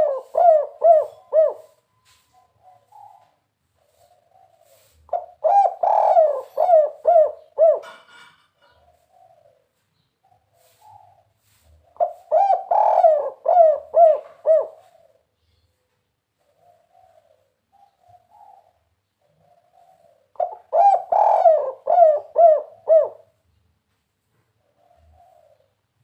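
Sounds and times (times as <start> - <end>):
dove cooing: 0.0 - 23.5, 24.6 - 26.0.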